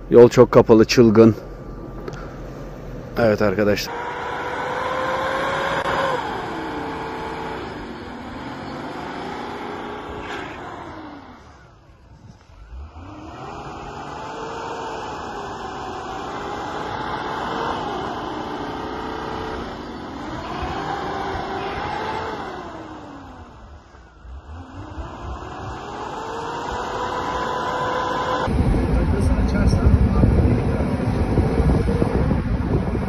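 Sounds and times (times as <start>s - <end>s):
off-road engine revving hard: 3.2s - 11.8s, 12.6s - 33.0s.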